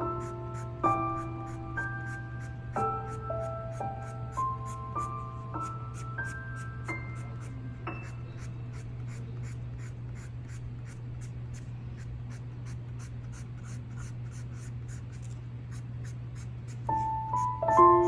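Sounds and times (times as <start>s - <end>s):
pencil scratching on paper: 0.0s - 17.9s.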